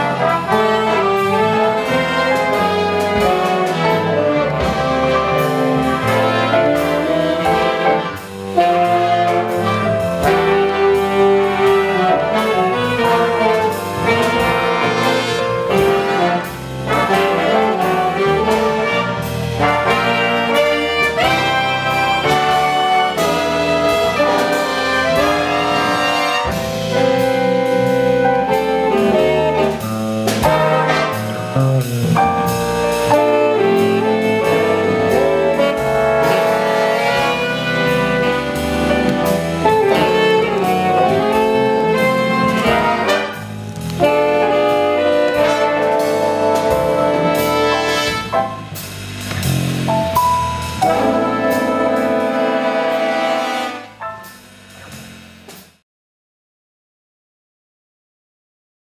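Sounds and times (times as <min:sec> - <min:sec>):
jazz big band playing: 0:00.0 - 0:55.8.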